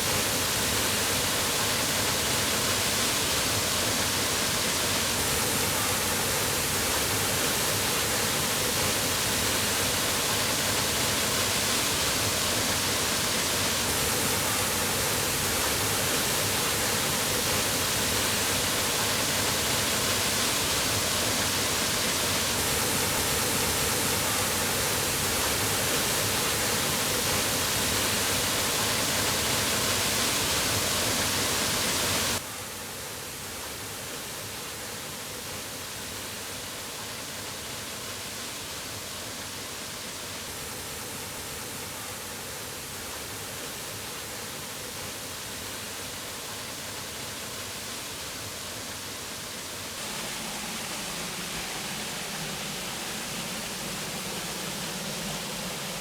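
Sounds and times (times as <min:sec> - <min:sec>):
waterfall rushing: 0:00.0 - 0:34.0, 0:34.6 - 0:56.0.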